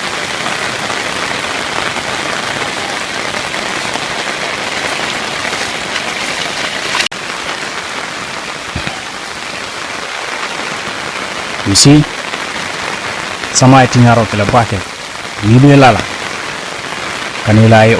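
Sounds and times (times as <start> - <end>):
rain falling steadily: 0.0 - 17.9.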